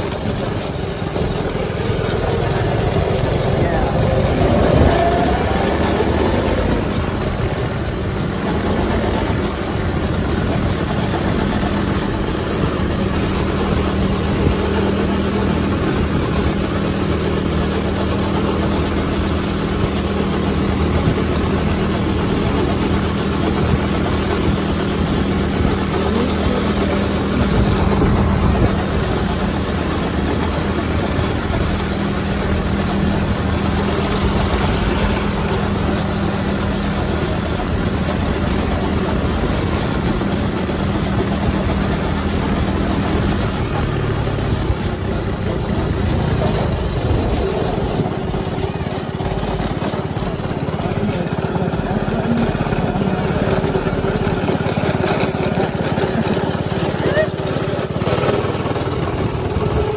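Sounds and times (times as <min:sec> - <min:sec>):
go-kart engine running: 0:00.0 - 0:59.9
road and wind noise: 0:00.0 - 0:59.9.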